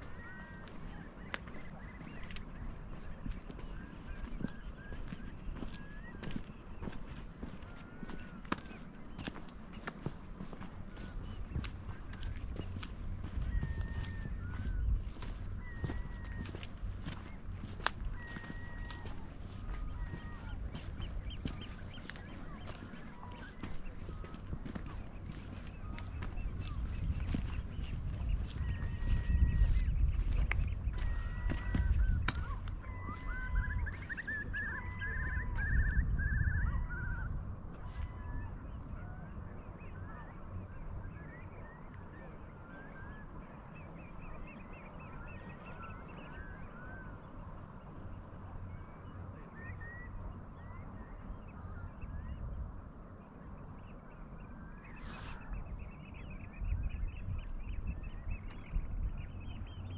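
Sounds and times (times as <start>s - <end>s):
flock of birds calling: 0.0s - 52.4s, 54.1s - 59.9s.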